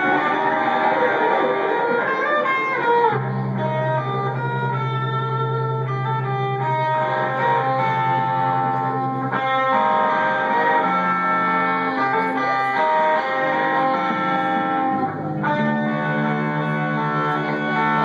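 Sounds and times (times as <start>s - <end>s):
electric guitars picking notes: 0.0s - 18.0s
live rock band playing: 0.0s - 18.0s.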